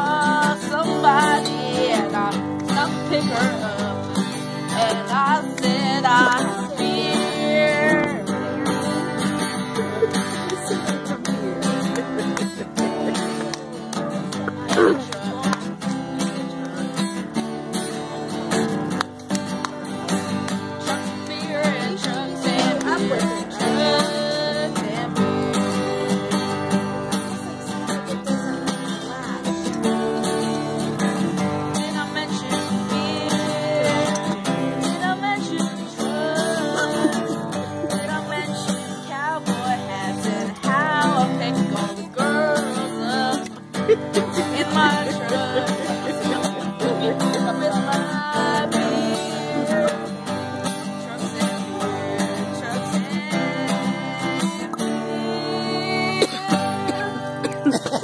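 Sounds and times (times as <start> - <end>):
man singing: 0.0 - 18.2, 20.0 - 58.0
acoustic guitar strumming: 0.0 - 58.0.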